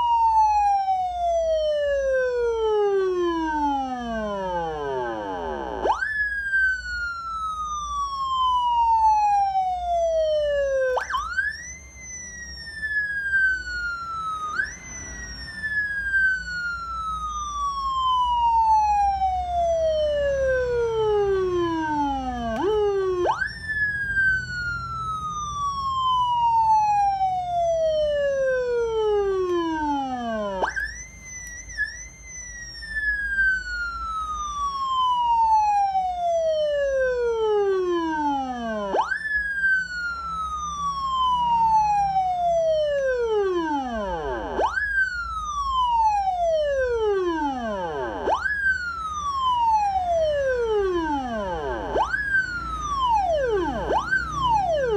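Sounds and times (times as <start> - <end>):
electronic siren wailing: 0.0 - 54.9.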